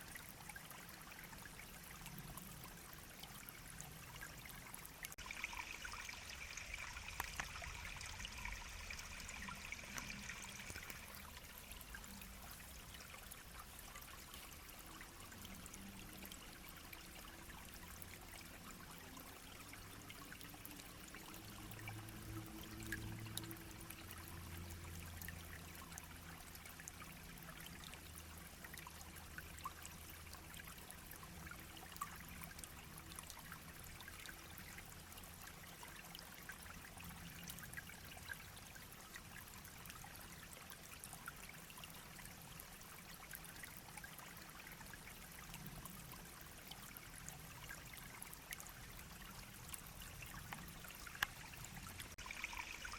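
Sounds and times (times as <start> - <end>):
brook babbling: 0.0 - 52.9.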